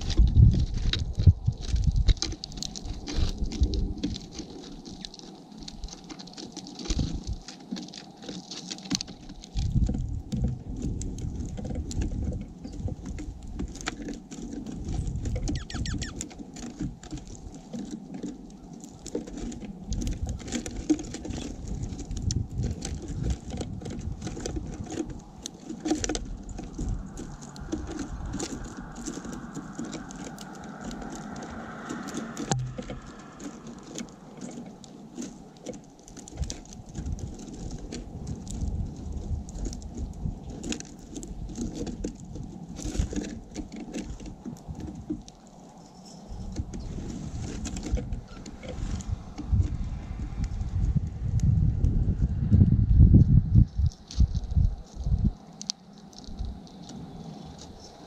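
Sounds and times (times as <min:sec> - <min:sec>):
birds pecking seeds: 0:00.0 - 0:52.7, 0:53.4 - 0:58.0.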